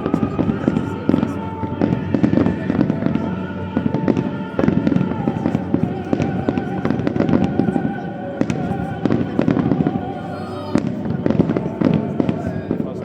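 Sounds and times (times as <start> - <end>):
fireworks bangs and crackling: 0.0 - 13.0
music playing: 0.0 - 13.0.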